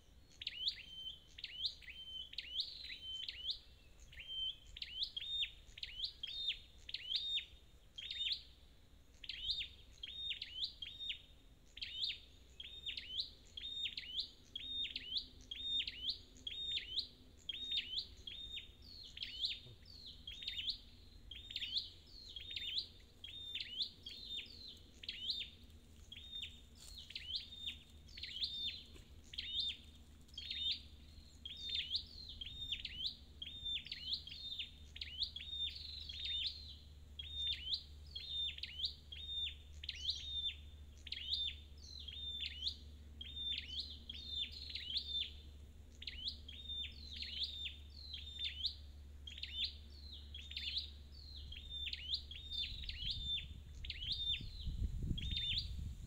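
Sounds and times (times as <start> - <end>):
bird calling with high ticks: 0.0 - 8.5, 9.1 - 54.6.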